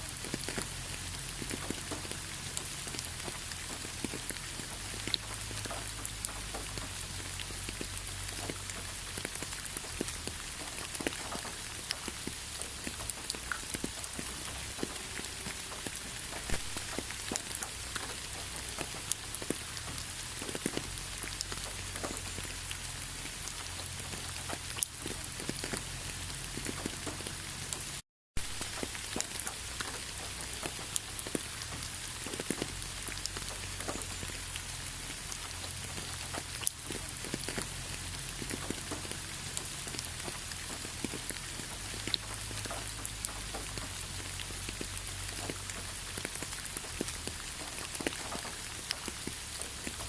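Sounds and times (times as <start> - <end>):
raindrops ticking on surfaces: 0.0 - 50.0
steady rain hiss: 0.0 - 50.0.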